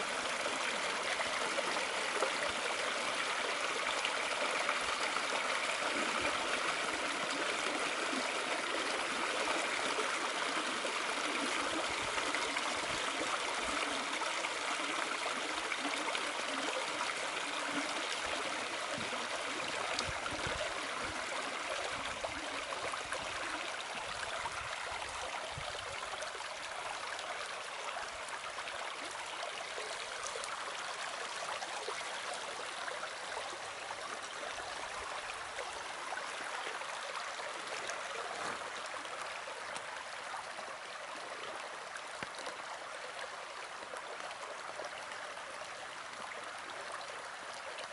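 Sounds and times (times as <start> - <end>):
creek rushing over stones: 0.0 - 47.9.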